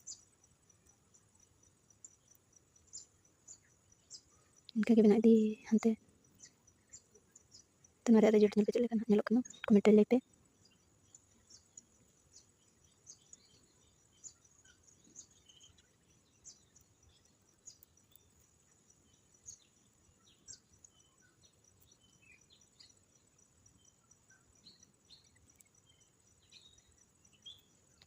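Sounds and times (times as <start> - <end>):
faint birds chirping: 0.0 - 28.0
insect trill: 0.0 - 28.0.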